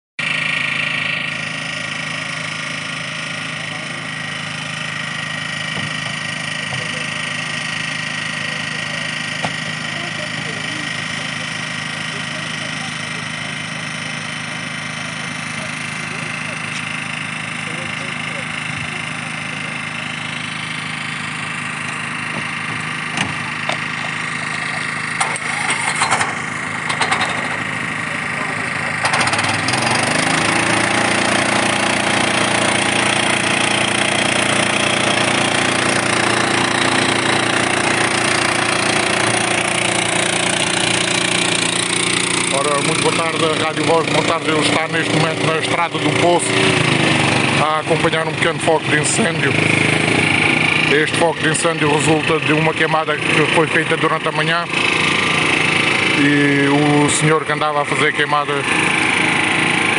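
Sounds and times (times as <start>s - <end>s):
engine running steadily: 0.2s - 59.9s.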